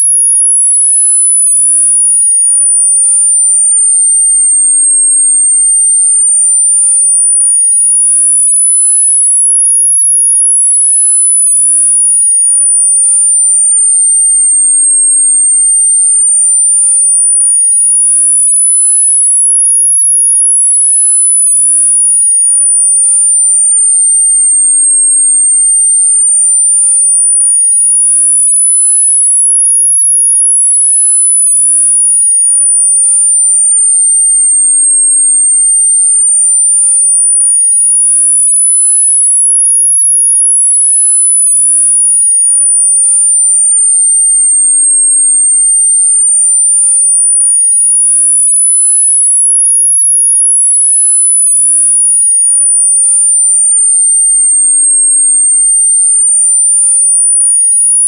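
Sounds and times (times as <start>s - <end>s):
high-pitched sine tone sweeping: 0.0s - 58.0s.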